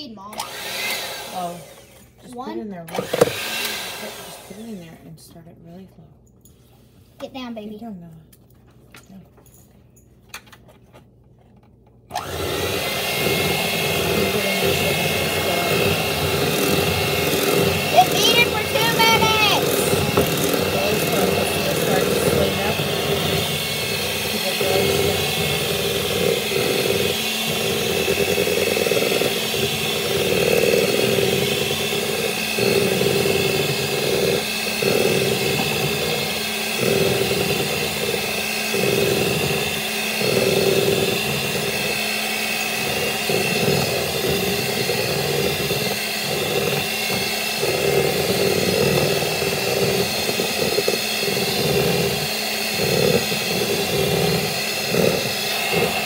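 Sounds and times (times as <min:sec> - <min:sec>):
beaters churning batter: 0:00.0 - 0:05.0, 0:12.1 - 0:56.0
electric hand mixer whining: 0:00.0 - 0:05.1, 0:12.1 - 0:56.0.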